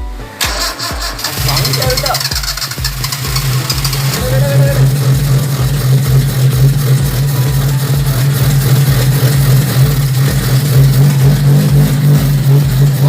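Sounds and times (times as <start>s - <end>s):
car engine pulsing drone: 0.3s - 13.0s.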